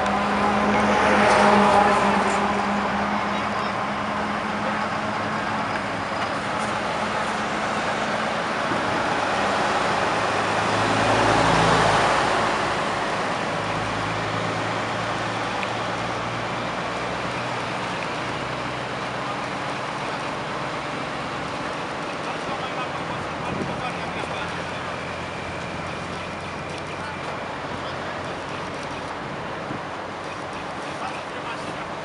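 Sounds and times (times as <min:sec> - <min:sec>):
diesel truck engine humming: 0:00.0 - 0:32.0
traffic noise: 0:00.0 - 0:32.0.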